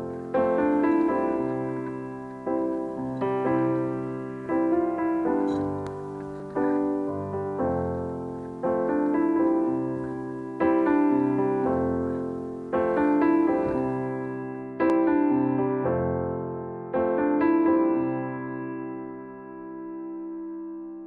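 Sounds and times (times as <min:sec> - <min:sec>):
slow solo piano chords: 0:00.0 - 0:21.0.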